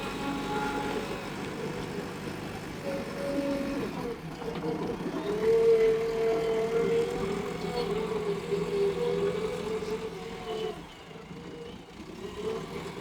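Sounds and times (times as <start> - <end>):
excavator diesel engine droning: 0.0 - 10.8.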